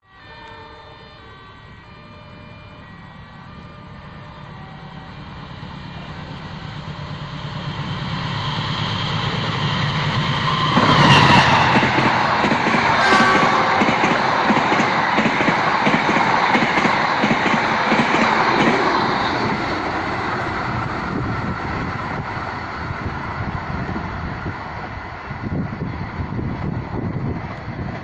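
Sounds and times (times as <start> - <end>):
diesel train passing: 0.2 - 28.0.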